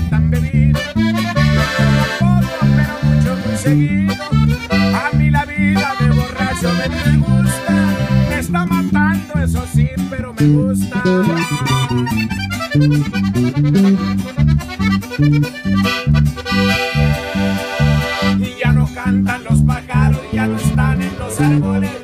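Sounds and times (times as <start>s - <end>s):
button accordion: 0.0s - 9.3s, 10.4s - 22.0s
acoustic guitar: 0.0s - 22.0s
electric bass: 0.0s - 22.0s.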